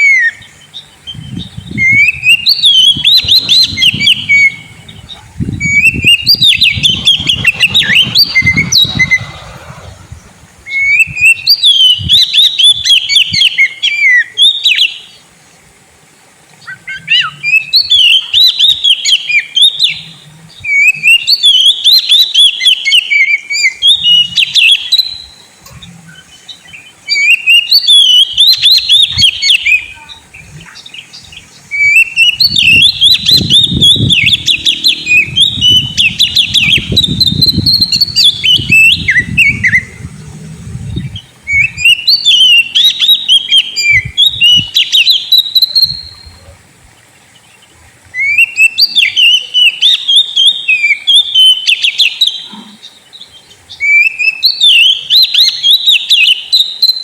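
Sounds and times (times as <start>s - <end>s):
bird singing whistled phrases: 0.0s - 9.4s, 10.7s - 15.0s, 16.6s - 20.0s, 20.6s - 25.4s, 26.6s - 31.1s, 31.7s - 40.0s, 41.1s - 46.4s, 48.2s - 52.7s, 53.8s - 57.0s.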